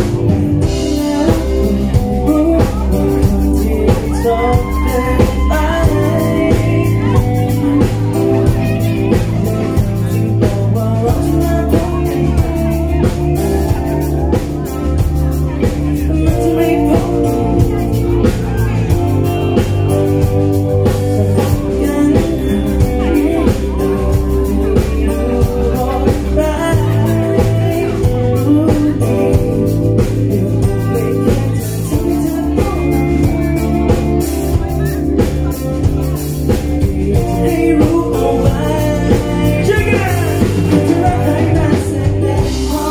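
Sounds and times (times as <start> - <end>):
electric guitar: 0.0 - 42.9
keyboard: 0.0 - 42.9
male singer: 0.0 - 42.9
steady beat: 0.0 - 42.9
female singer: 0.2 - 19.6, 20.8 - 35.4, 36.1 - 42.9.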